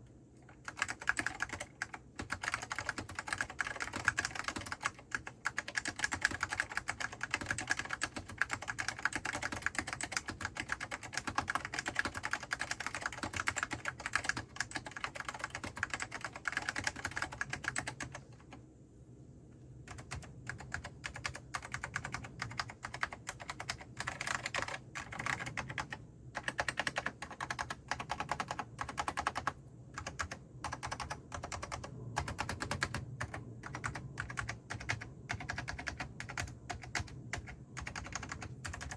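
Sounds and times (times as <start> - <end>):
fast keyboard typing: 0.4 - 18.6, 19.9 - 38.9.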